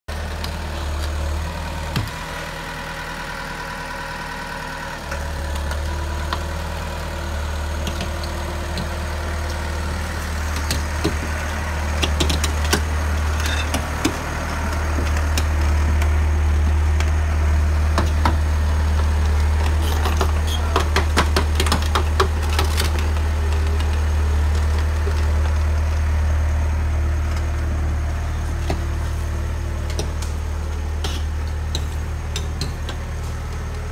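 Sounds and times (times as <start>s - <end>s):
diesel engine humming: 0.1s - 33.9s.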